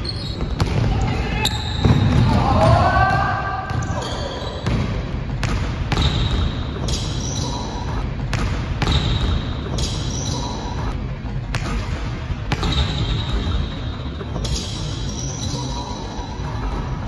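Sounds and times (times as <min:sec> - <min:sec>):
sneakers squeaking: 0:00.0 - 0:17.0.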